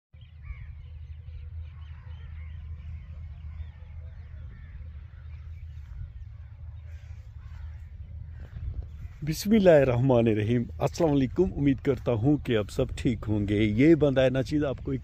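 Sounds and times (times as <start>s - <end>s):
birds chirping and calling: 0.2s - 15.0s
steady low rumble: 0.2s - 15.0s.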